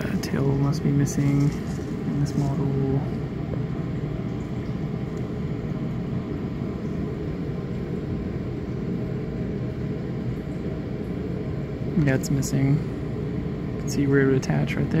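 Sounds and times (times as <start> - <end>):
ventilation rumble: 0.0 - 15.0.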